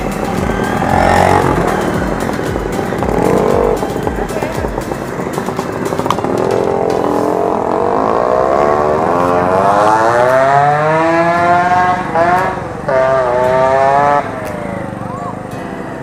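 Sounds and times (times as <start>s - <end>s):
motorcycle engine at high revs: 0.0s - 15.1s.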